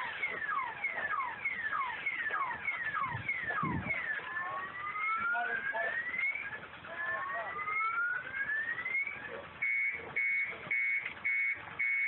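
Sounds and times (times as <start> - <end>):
car alarm whooping and beeping: 0.0 - 12.0.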